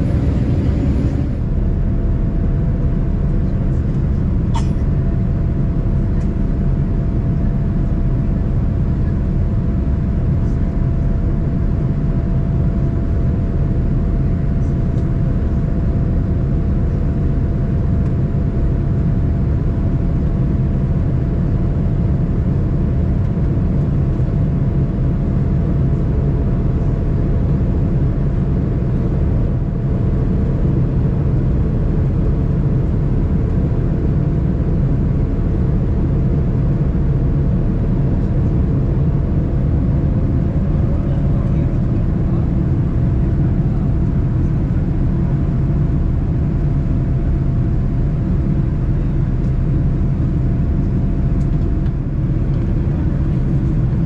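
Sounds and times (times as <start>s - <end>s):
airliner engine rumble: 0.0s - 54.0s.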